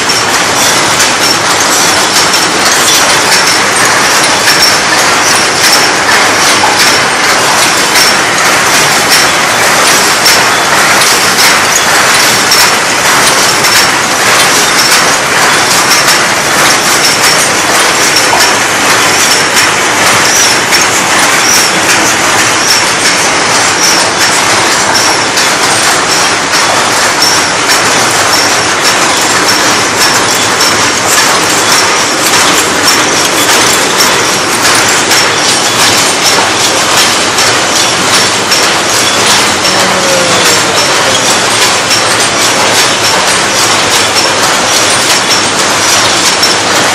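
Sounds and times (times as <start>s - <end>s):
machine mechanical clatter: 0.0s - 46.9s
repeating machine click: 0.0s - 46.9s.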